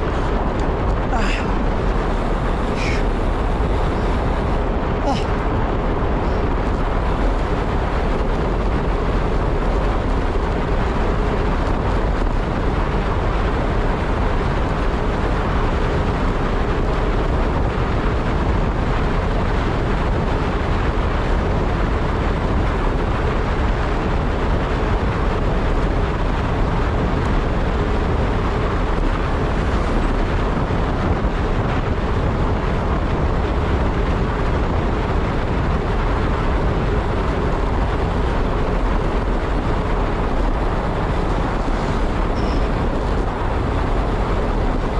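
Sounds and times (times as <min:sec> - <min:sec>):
faint constant hum: 0:00.0 - 0:44.9
road noise: 0:00.0 - 0:44.9
wind rush on microphone: 0:00.0 - 0:44.9.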